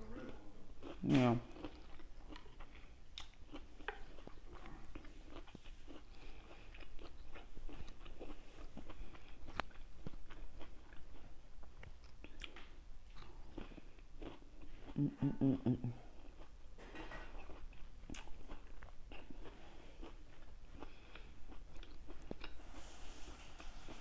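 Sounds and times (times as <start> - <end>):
person chewing fruit: 0.0 - 24.0.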